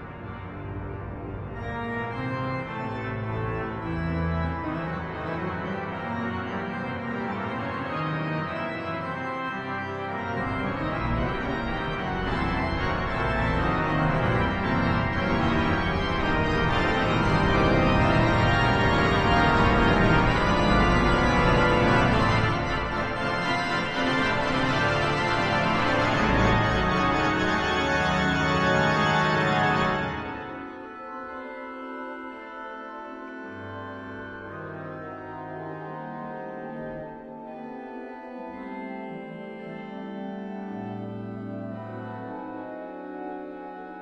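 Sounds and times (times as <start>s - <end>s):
deep organ pedal notes: 0.0s - 44.0s
pipe organ chords: 0.0s - 44.0s.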